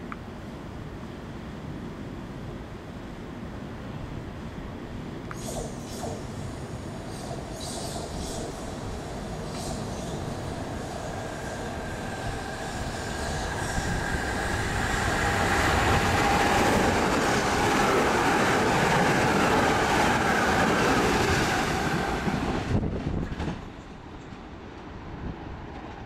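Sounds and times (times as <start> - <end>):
train passing on rails: 0.0 - 26.0.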